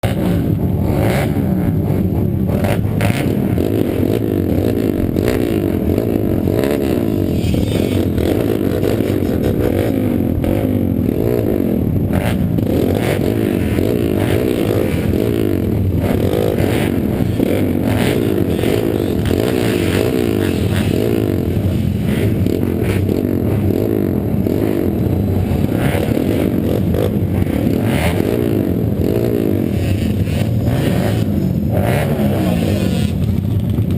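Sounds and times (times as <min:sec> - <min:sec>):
pit bike engines revving: 0:00.0 - 0:33.9.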